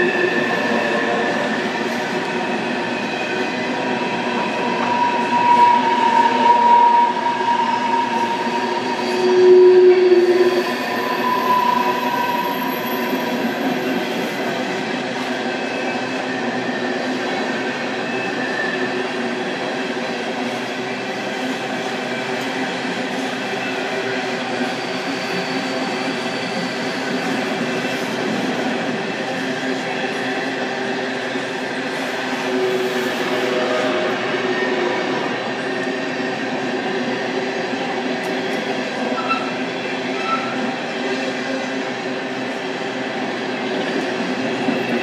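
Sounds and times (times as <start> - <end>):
freight train rumbling over bridge: 0.0 - 45.0
train wheels squealing: 0.0 - 45.0.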